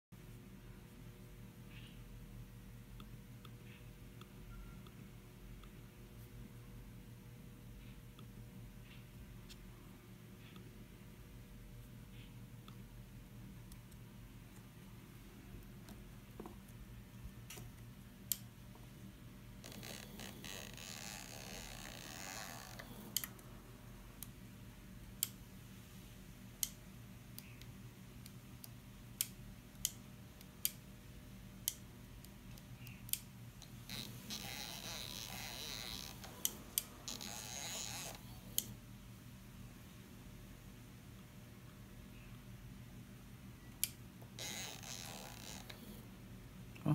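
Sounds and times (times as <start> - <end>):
faint low hum: 0.2 - 46.9.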